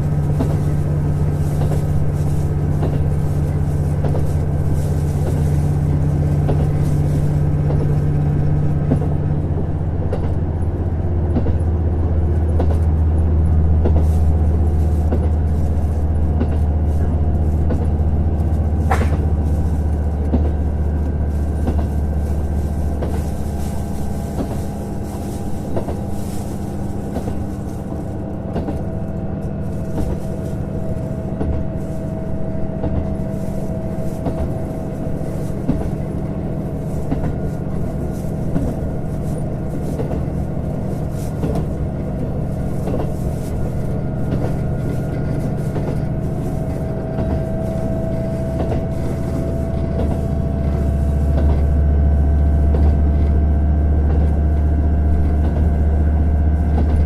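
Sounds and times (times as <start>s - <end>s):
low diesel engine drone: 0.0s - 57.0s
wheels clicking over rails: 0.0s - 57.0s.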